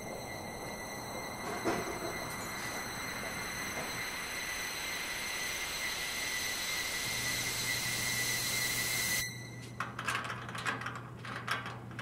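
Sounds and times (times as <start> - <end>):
hiss with high whistle tone: 0.0 - 9.6.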